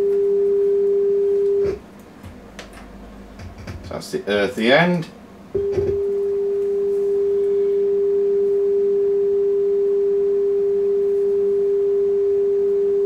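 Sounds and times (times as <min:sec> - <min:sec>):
steady sine test tone: 0:00.0 - 0:13.0.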